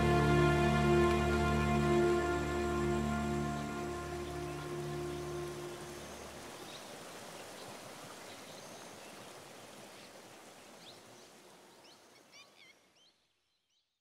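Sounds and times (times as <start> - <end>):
water rushing over rocks: 0.0 - 11.8.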